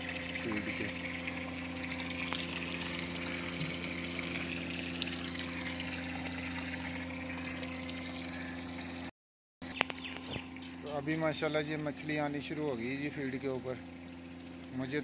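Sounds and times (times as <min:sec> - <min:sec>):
electric aeration equipment hum: 0:00.0 - 0:15.0
water bubbling and fizzing: 0:00.0 - 0:15.0.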